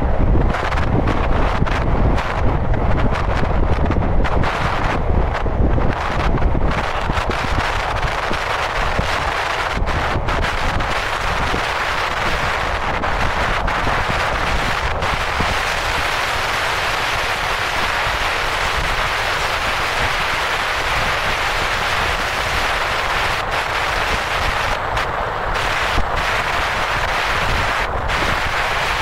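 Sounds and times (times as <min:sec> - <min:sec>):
car road and tyre noise: 0:00.0 - 0:29.0
wind buffeting microphone: 0:00.0 - 0:29.0.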